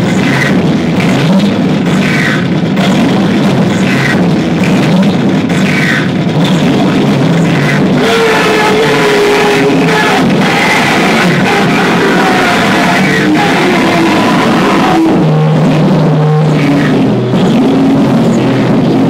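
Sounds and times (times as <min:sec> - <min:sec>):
distorted noise music: 0:00.0 - 0:19.0.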